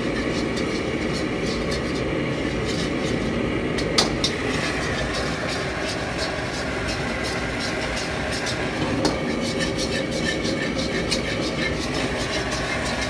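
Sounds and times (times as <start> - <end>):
gas burner rushing: 0.0 - 13.0
metal utensil scraping wok: 0.0 - 13.0.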